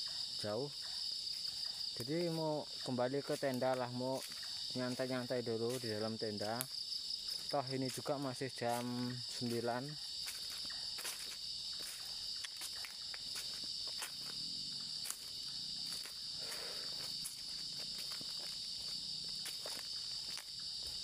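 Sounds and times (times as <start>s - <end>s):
crickets chirping: 0.0s - 21.0s
footsteps on forest floor: 0.0s - 21.0s.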